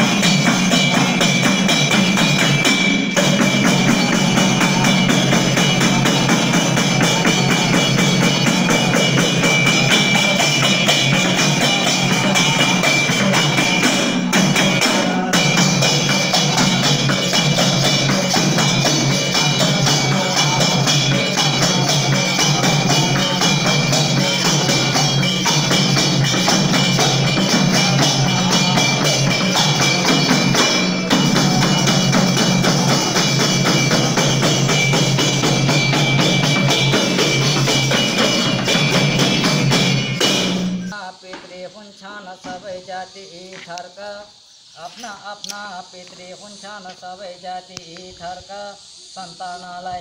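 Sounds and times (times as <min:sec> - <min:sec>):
jingle ring jingling: 0:00.0 - 0:40.9
hand drums beating: 0:00.0 - 0:41.4
men singing: 0:00.0 - 0:50.0.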